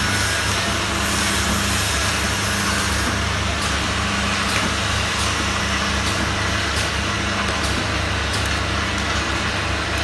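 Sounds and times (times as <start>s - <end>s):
machine motor hum: 0.0s - 10.0s.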